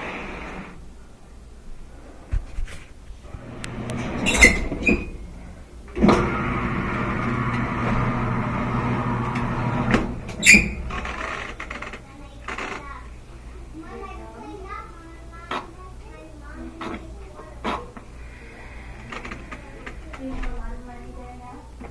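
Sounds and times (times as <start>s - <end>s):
washing machine motor humming: 0.0s - 21.9s.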